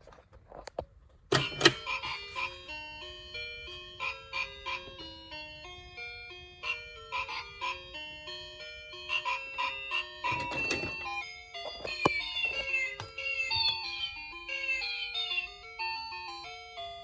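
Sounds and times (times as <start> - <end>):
chiming electronic melody: 2.7 - 17.0.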